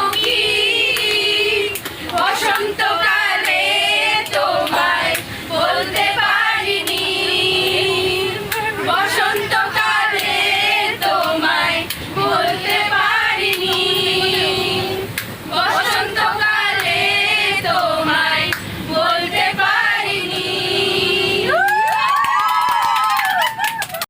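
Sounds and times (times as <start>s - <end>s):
group of voices singing: 0.0s - 21.6s.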